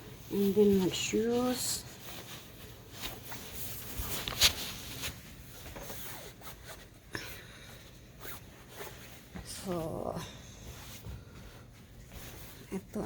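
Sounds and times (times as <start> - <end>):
clothing rustling: 0.0 - 13.0.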